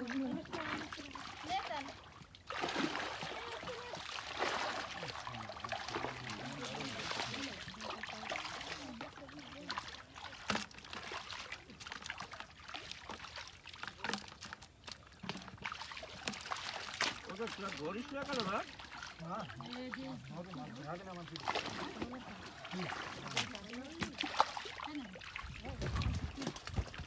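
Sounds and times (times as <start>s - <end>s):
muddy water sloshing and splashing: 0.0s - 27.0s.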